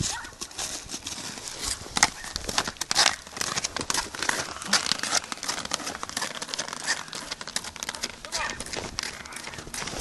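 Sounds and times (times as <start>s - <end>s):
snowshoes crunching on icy snow: 0.0s - 7.1s, 8.4s - 10.0s.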